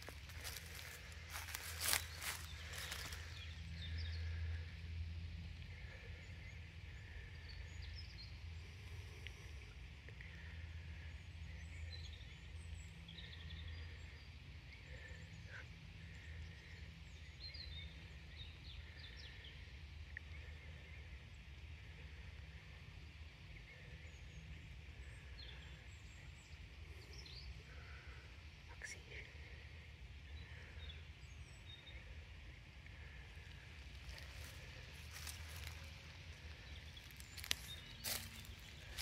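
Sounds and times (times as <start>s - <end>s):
faint birdsong chirps: 0.0s - 39.0s
low steady rumble: 0.0s - 39.0s.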